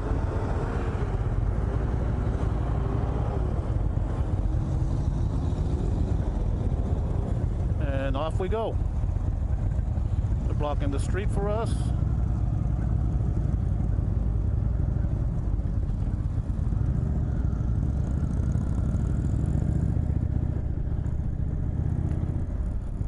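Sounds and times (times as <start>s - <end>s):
motorcycle engine running: 3.6s - 23.0s.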